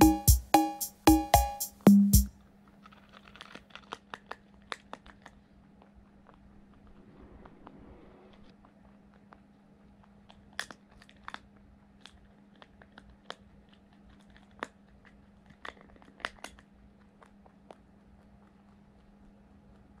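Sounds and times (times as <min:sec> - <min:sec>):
rabbit gnawing and crunching: 0:02.4 - 0:07.1, 0:08.6 - 0:20.0.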